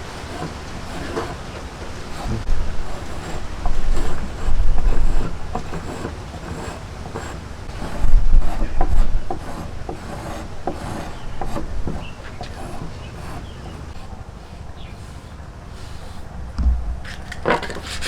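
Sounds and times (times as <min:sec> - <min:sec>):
wood being rasped: 0:00.0 - 0:16.4, 0:17.1 - 0:18.0.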